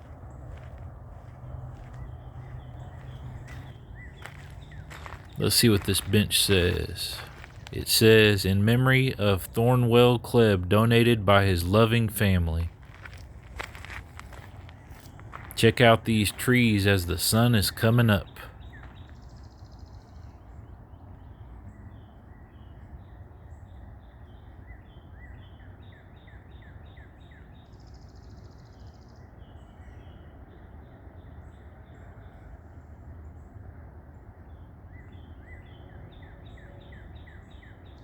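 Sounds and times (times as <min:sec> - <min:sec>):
birds chirping: 0:00.0 - 0:32.4.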